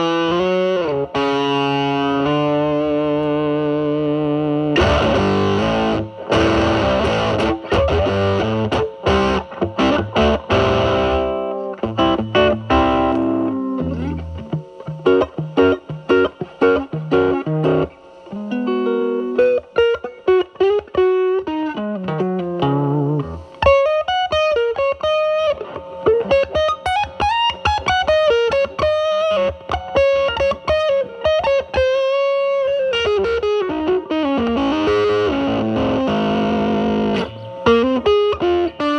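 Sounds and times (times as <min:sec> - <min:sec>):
fuzz electric guitar: 0:00.0 - 0:38.9.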